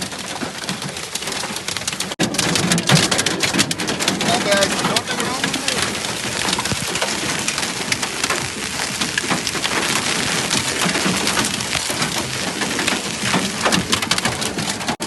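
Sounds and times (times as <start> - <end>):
hailstones striking hard surfaces: 0.0 - 15.0
heavy rain: 0.0 - 15.0.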